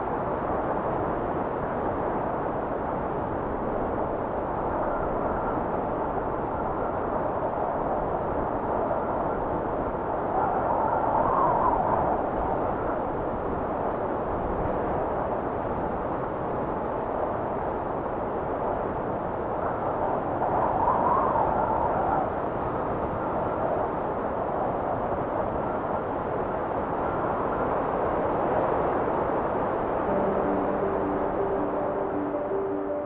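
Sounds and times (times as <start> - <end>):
wind blowing in gusts: 0.0 - 33.0.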